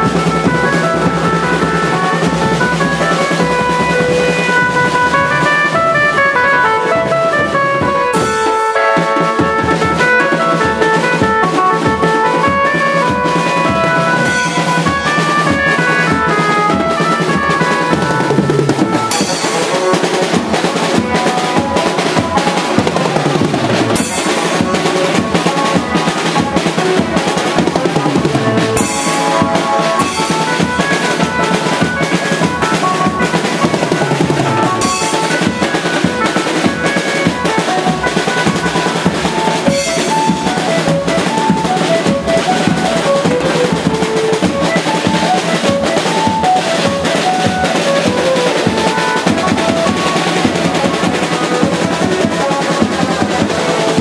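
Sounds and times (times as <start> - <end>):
electronic keyboard melody: 0.0 - 54.0
fast snare drumming: 0.0 - 54.0.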